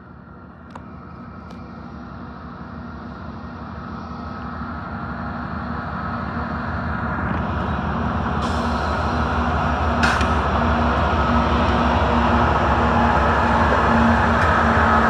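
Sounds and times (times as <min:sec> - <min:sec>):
train locomotive rumble: 0:00.0 - 0:15.0.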